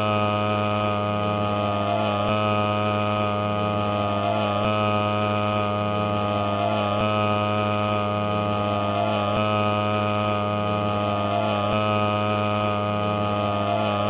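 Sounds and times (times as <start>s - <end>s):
loud droning hum: 0.0s - 14.0s.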